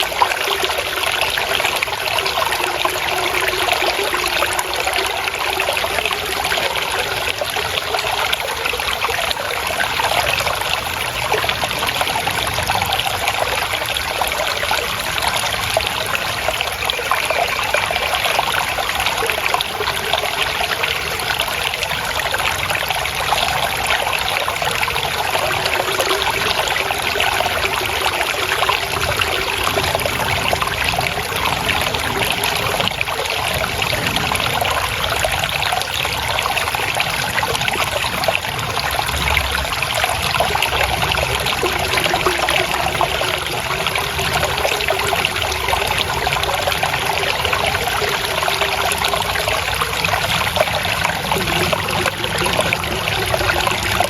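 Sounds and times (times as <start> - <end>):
water trickling and flowing: 0.0 - 54.0.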